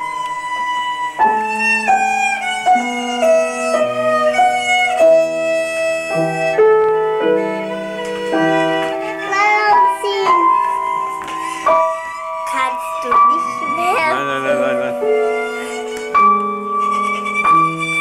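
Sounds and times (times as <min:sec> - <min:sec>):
violin slow melody: 0:00.0 - 0:18.0.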